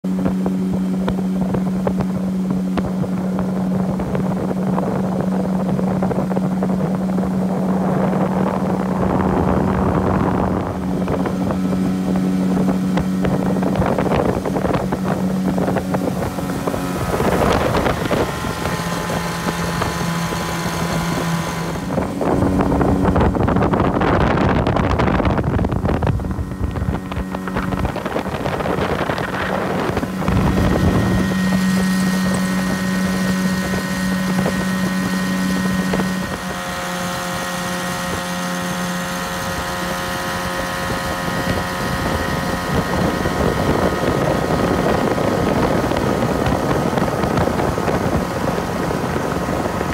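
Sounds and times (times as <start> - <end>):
motorboat engine drone: 0.0 - 49.9
wind and water rushing: 0.0 - 49.9.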